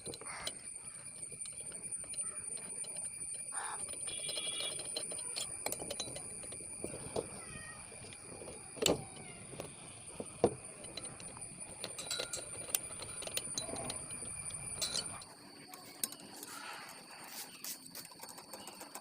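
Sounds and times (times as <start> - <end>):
metal tools clinking: 0.0 - 16.5.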